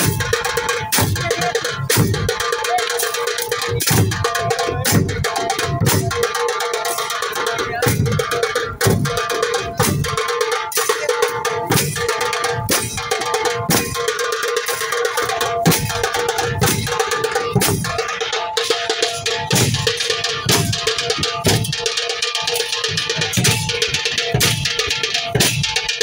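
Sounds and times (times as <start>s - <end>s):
drums beaten in steady rhythm: 0.0s - 26.0s.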